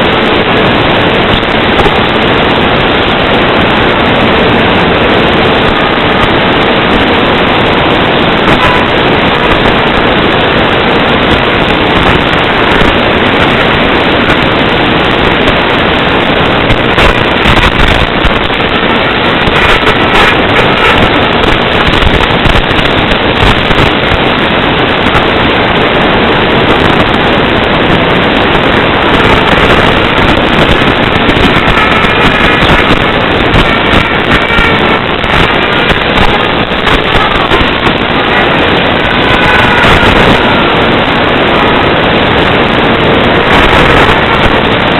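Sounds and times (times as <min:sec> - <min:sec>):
static hiss: 0:00.0 - 0:44.9.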